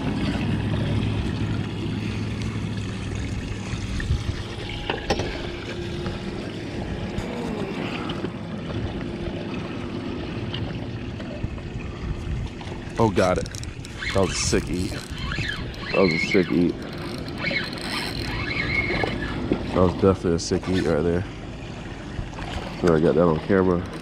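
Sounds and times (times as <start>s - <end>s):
low hum: 0.0s - 24.0s
water trickling in bait well: 0.0s - 24.0s.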